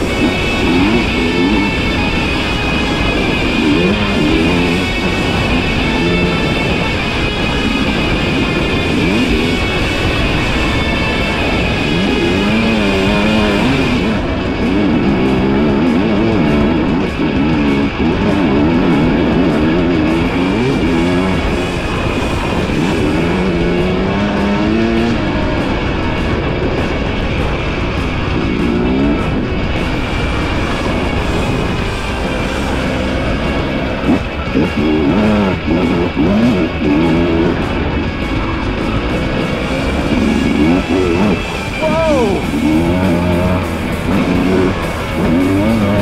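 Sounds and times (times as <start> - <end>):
dirt bike engine revving: 0.0 - 46.0
guitar-led music: 0.0 - 46.0.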